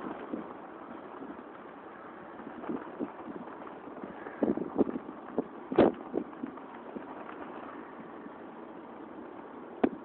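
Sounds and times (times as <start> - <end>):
steady wind blowing: 0.0 - 10.0.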